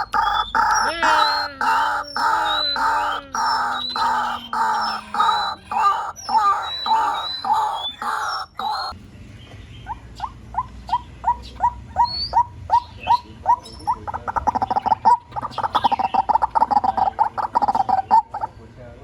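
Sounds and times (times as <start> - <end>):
waterhen calling: 0.0 - 9.0, 9.8 - 18.6.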